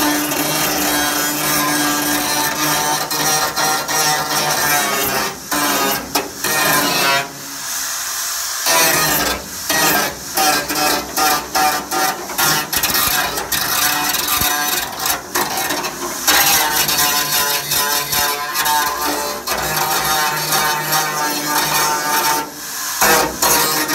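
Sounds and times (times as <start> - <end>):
high hiss: 0.0 - 23.9.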